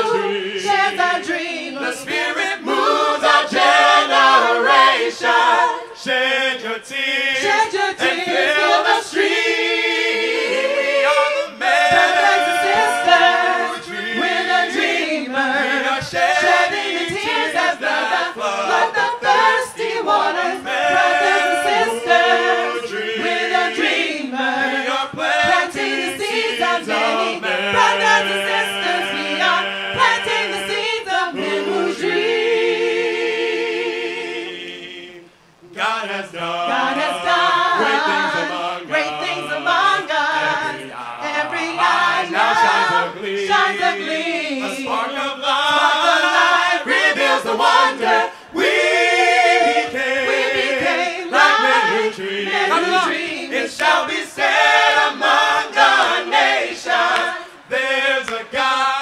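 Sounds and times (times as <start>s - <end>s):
group singing worship song: 0.0s - 59.0s.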